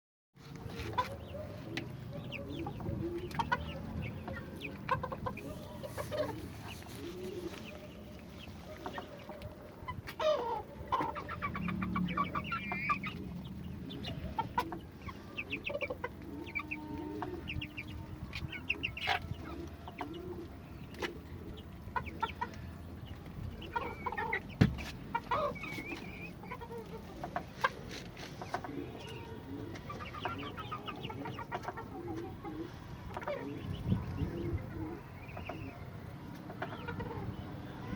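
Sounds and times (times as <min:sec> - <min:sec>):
chickens clucking: 0:00.4 - 0:37.9.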